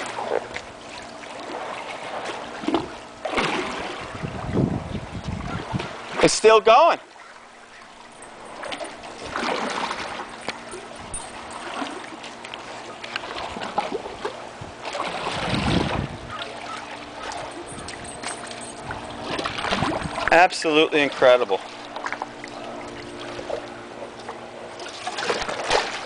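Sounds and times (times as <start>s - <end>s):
pool water sloshing and splashing: 0.0s - 26.0s.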